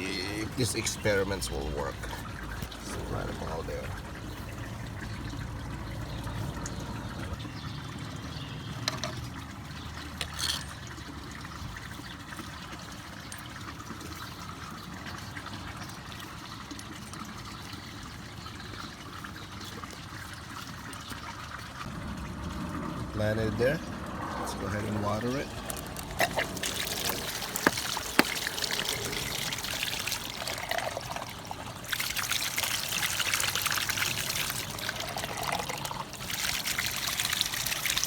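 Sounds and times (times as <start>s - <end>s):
water trickling: 0.0s - 38.0s.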